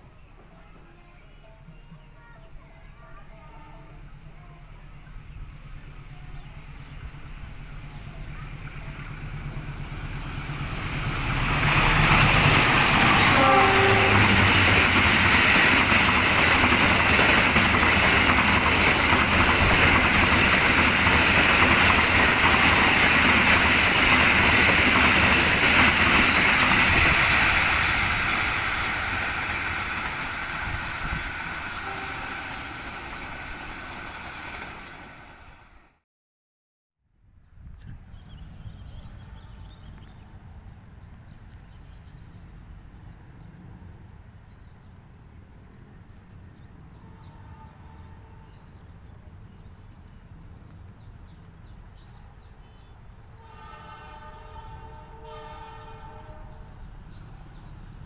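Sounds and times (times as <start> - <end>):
train passing with rail noise: 0.0 - 36.0, 37.5 - 58.0.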